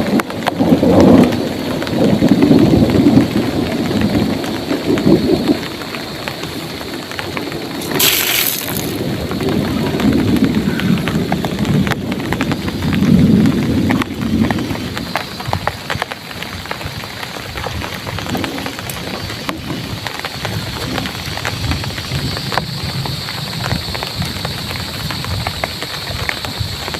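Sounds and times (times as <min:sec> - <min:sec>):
heavy rain pattering: 0:00.0 - 0:26.9
rolling thunder: 0:00.0 - 0:26.9
sharp crackle: 0:00.0 - 0:26.9.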